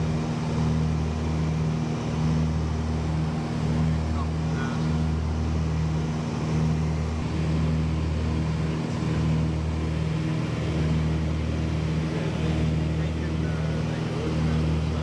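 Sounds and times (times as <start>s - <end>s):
light aircraft engine and propeller drone: 0.0s - 15.0s.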